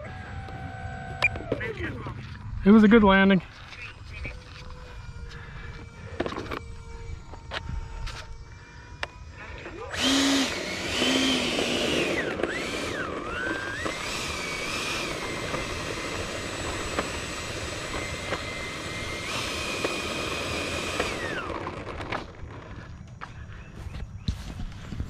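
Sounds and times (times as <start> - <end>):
electric ducted fan whining: 0.0 - 25.0.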